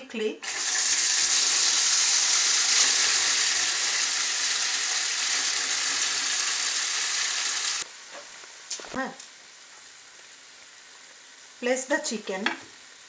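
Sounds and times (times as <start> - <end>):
hot oil sizzling: 0.4 - 13.0.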